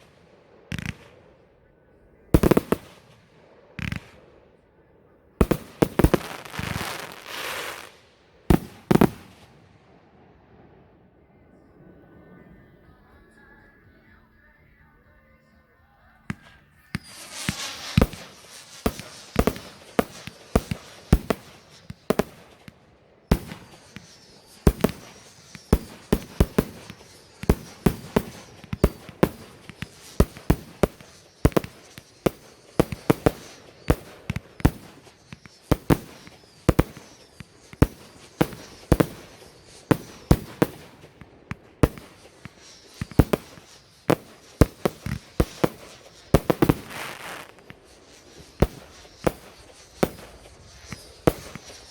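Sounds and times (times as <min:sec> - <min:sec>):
fireworks crackling: 0:00.0 - 0:01.4, 0:02.3 - 0:04.3, 0:05.4 - 0:10.7, 0:16.0 - 0:51.9
fireworks bangs: 0:00.0 - 0:04.6, 0:05.3 - 0:14.9, 0:16.0 - 0:51.9.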